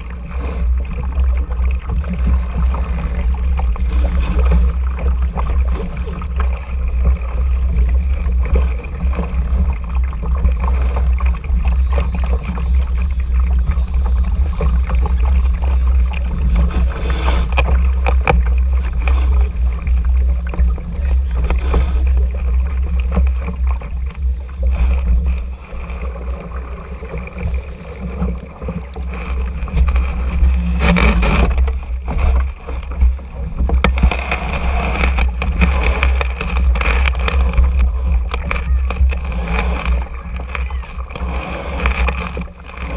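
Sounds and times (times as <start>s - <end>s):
water rushing past hull: 0.0s - 42.9s
wind rumbling on microphone: 0.0s - 42.9s.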